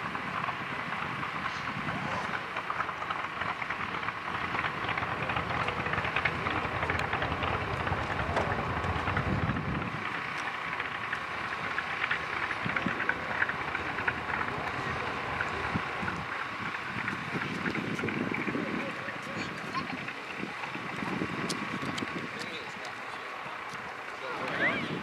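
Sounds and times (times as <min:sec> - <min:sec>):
aircraft engines running: 0:00.0 - 0:25.0
faint steady whine: 0:00.0 - 0:25.0.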